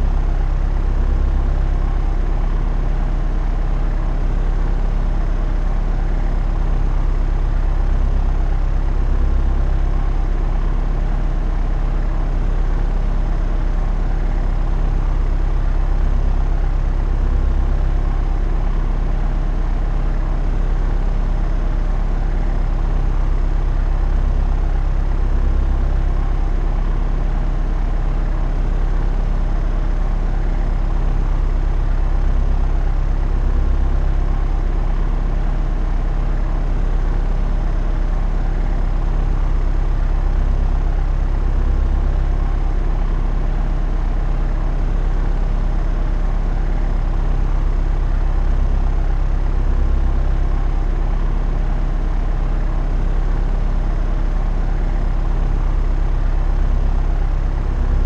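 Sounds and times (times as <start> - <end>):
propeller aircraft drone: 0.0 - 58.0.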